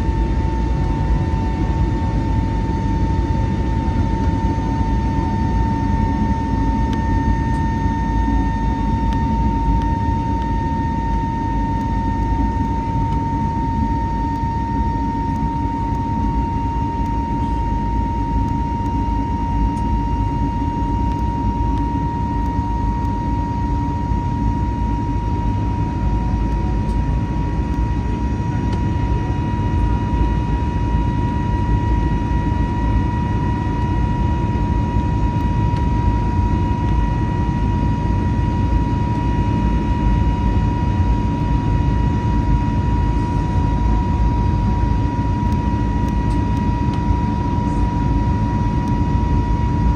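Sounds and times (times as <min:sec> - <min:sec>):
jet engine high-pitched whine: 0:00.0 - 0:49.9
jet engine low rumble: 0:00.0 - 0:49.9.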